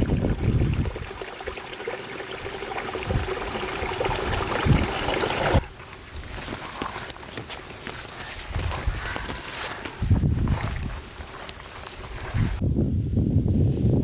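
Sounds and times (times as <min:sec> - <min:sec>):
water trickling and flowing: 0:00.0 - 0:12.6.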